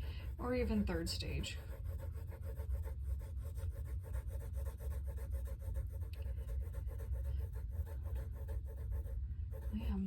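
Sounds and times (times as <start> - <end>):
pencil shading on paper: 0.0 - 10.0.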